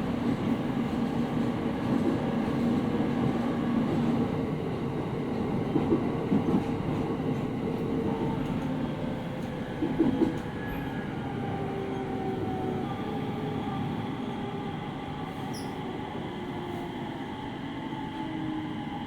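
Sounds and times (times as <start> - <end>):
train rail and running noise: 0.0 - 19.0.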